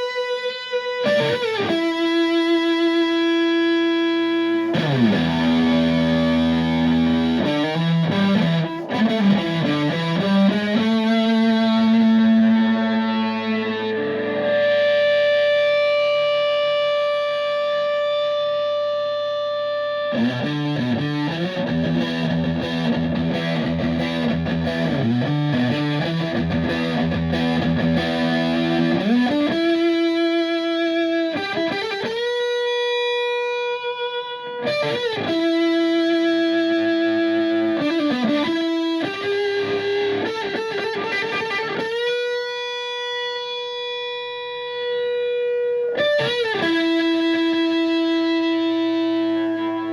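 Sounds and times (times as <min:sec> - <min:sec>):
fuzz electric guitar: 0:00.0 - 0:49.9.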